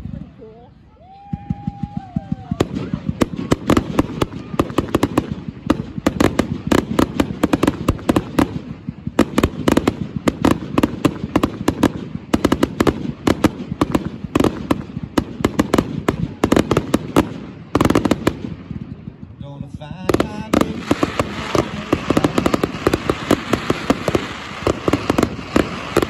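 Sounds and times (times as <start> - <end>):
fireworks bangs: 1.1 - 26.0.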